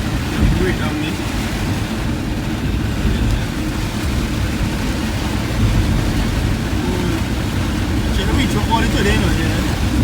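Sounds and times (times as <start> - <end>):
road noise: 0.0 - 10.0
vehicle engine rumble: 0.0 - 10.0.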